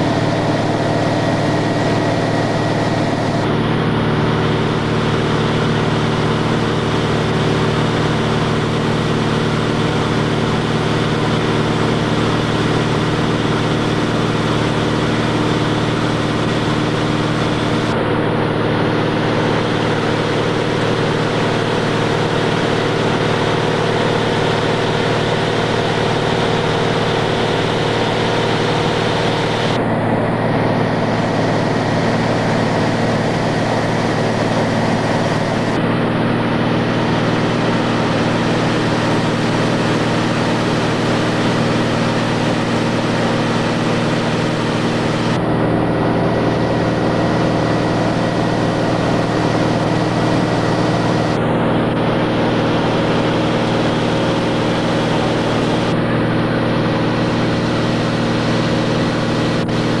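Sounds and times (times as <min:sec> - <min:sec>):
airplane engine and propeller drone: 0:00.0 - 1:00.0.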